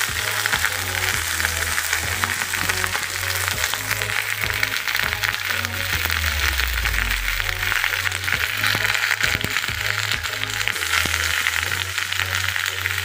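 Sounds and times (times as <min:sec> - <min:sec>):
background music with bass line: 0:00.0 - 0:13.0
vegetables sizzling in a wok: 0:00.0 - 0:13.0.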